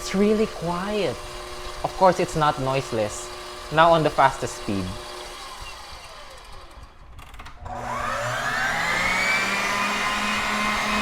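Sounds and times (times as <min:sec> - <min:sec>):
stand mixer motor whining: 0:00.0 - 0:11.0.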